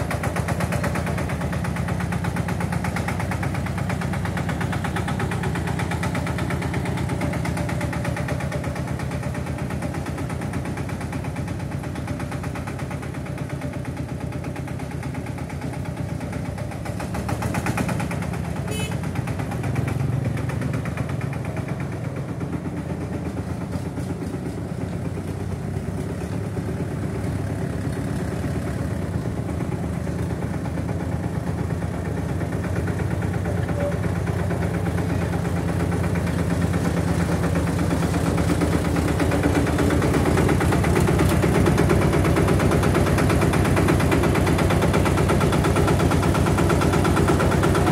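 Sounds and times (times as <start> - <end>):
engine chugging: 0.0 - 47.9.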